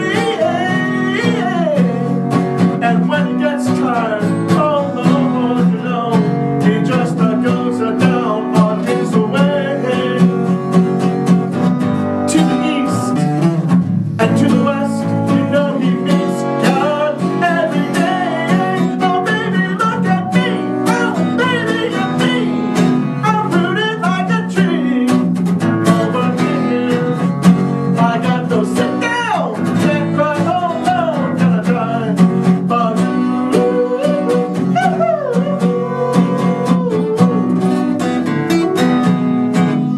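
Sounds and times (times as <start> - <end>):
sliding melody line: 0.0 - 25.2, 29.8 - 39.9
acoustic guitar playing: 0.0 - 39.9.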